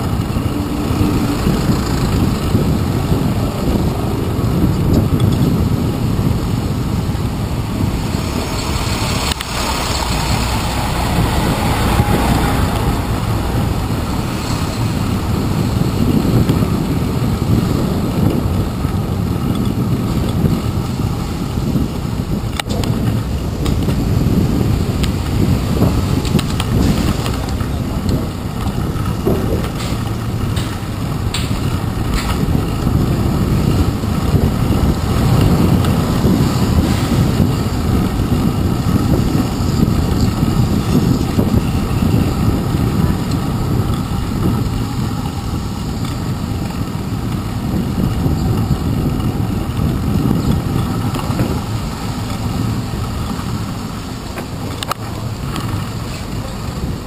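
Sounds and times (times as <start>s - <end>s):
traffic passing close: 0.0s - 57.0s
wind and road rumble: 0.0s - 57.0s.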